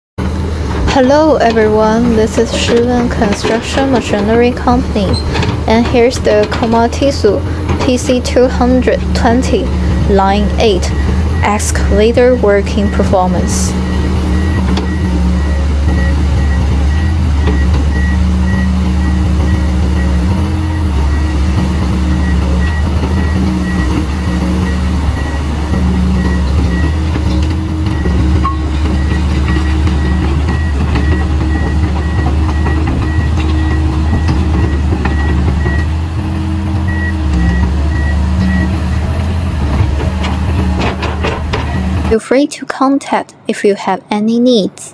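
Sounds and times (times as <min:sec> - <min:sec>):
excavator diesel engine running: 0:00.2 - 0:42.3
travel alarm beeping: 0:00.9 - 0:39.2.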